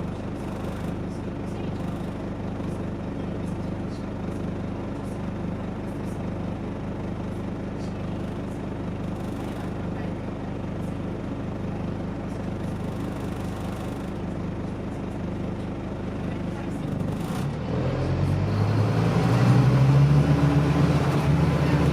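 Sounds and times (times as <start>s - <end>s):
bus engine droning: 0.0s - 21.9s.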